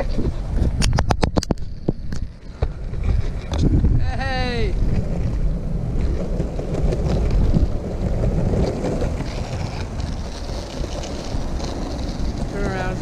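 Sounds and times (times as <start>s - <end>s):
skateboard wheels rumbling on asphalt: 0.0s - 13.0s
wind buffeting microphone: 0.0s - 13.0s.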